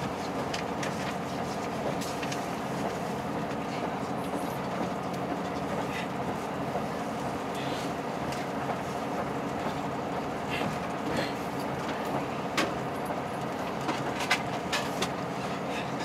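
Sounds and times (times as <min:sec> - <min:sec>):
train engine and wheels rumbling: 0:00.0 - 0:16.0.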